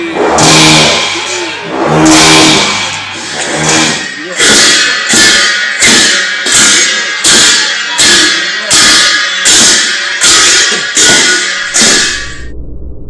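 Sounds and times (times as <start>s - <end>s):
cymbals crashing: 0.0s - 12.5s
drum beating: 0.0s - 12.5s.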